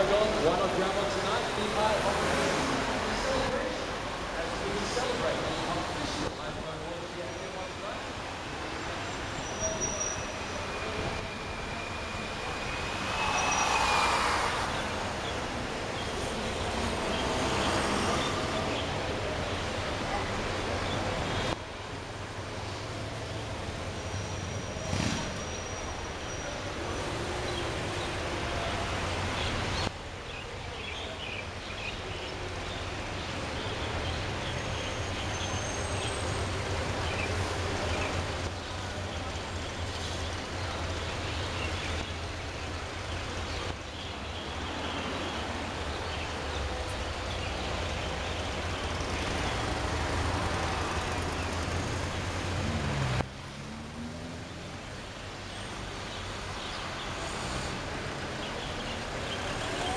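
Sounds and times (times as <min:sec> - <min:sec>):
road and traffic noise: 0:00.0 - 0:59.9.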